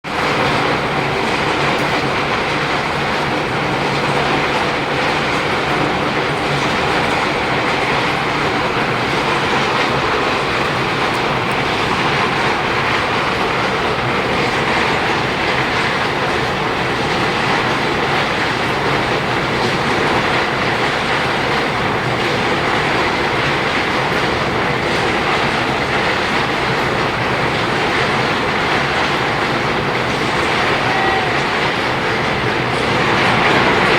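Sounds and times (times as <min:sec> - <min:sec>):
ore grinding mill rattling: 0:00.1 - 0:33.9.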